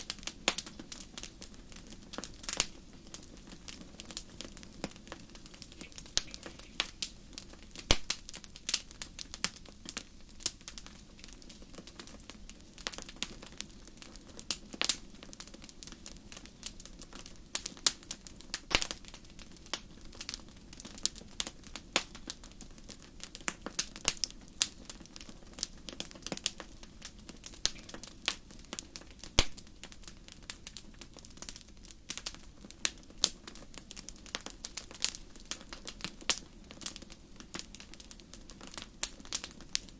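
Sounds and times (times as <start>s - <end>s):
campfire crackling and popping: 0.0s - 39.9s
low hiss of burning: 0.0s - 39.9s.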